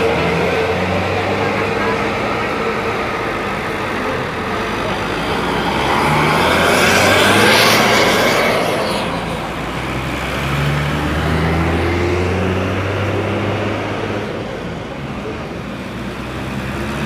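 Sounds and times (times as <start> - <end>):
diesel engine hum: 0.0 - 17.0.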